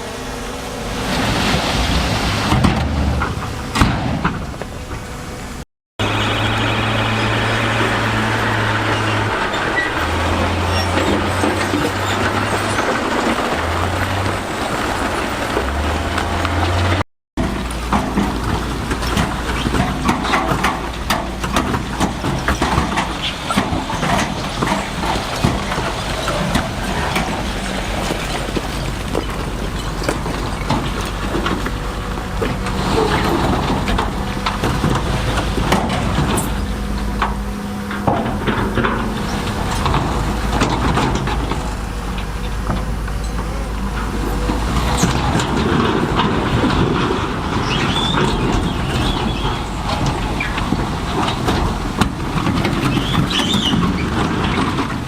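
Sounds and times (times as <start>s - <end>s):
diesel machinery engine running: 0.0s - 55.0s.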